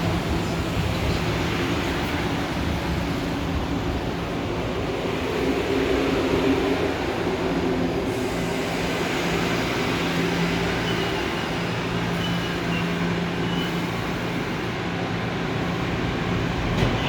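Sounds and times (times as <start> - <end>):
subway train running: 0.0 - 17.0.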